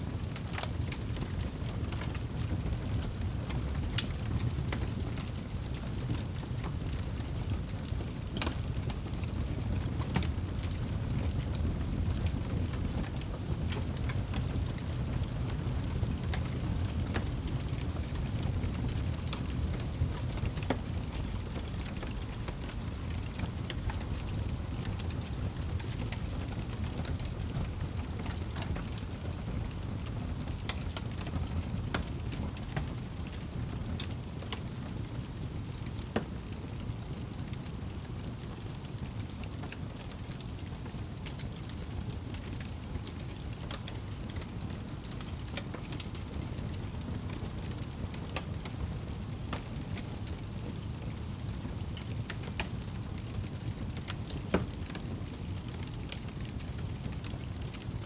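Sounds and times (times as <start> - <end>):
fire crackling and popping: 0.0 - 58.0
flames rumbling: 0.0 - 58.0.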